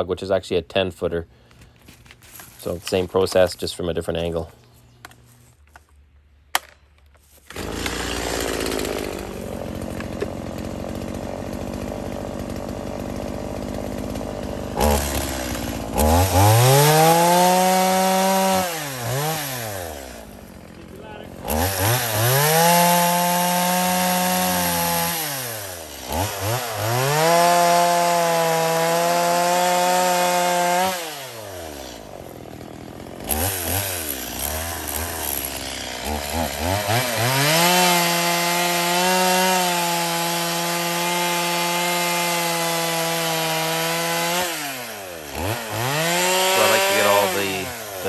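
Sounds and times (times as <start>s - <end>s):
chainsaw cutting at full throttle: 7.4s - 48.0s.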